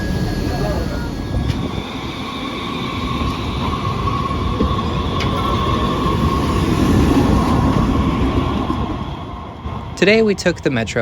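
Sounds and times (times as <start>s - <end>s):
high steady whine: 0.0s - 9.8s
light rail train rumbling: 0.0s - 11.0s.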